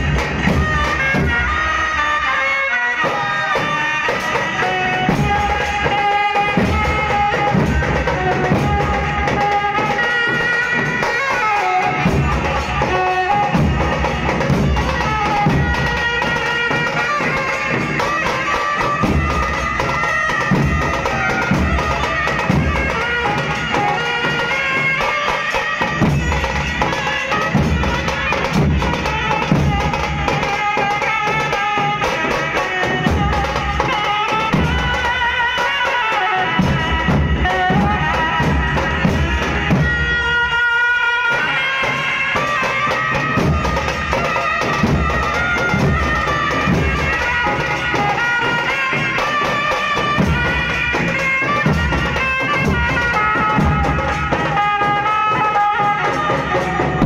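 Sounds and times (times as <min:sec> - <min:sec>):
large drums beating: 0:00.0 - 0:01.8, 0:03.1 - 0:40.3, 0:41.3 - 0:57.0
trumpet and horns melody: 0:00.0 - 0:57.0
small stick-beaten drum: 0:03.0 - 0:40.3, 0:41.3 - 0:57.0.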